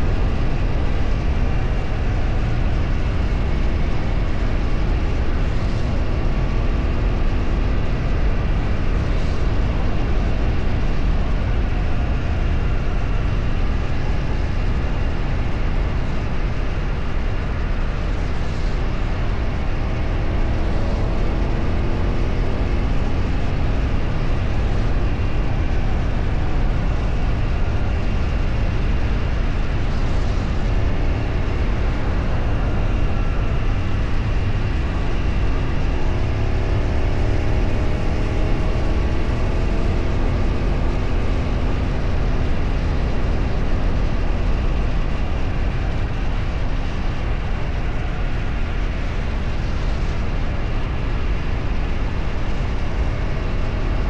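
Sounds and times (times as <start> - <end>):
road and wind rumble: 0.0 - 54.0
vehicle engine: 0.0 - 54.0.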